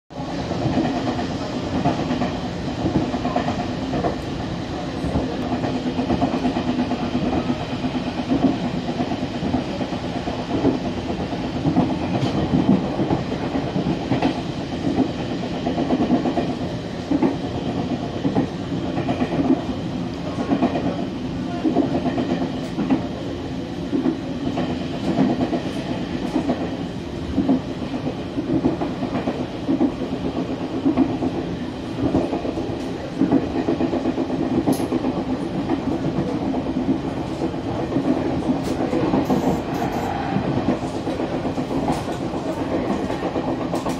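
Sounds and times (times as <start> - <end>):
train rumbling on track: 0.1 - 43.9.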